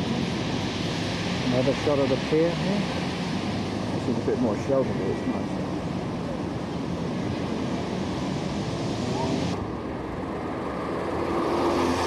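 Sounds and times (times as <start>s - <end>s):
car engine approaching: 0.0s - 12.0s
road traffic hum: 0.0s - 12.0s
surf rushing: 0.0s - 12.0s
wind: 0.0s - 12.0s.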